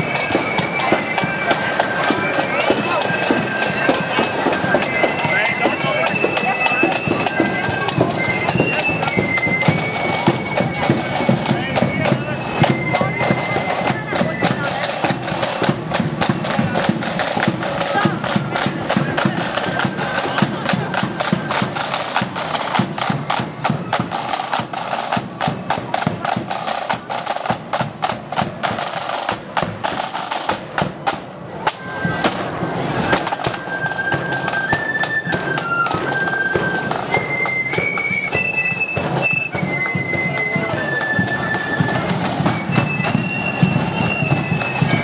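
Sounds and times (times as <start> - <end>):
snare and bass drums: 0.0 - 45.0.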